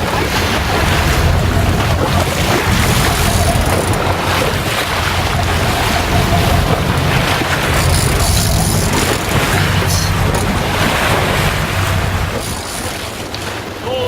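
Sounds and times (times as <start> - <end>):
wind buffeting microphone: 0.0 - 13.8
boat engine rumble: 0.0 - 14.0
rush of wind and water: 0.0 - 14.0.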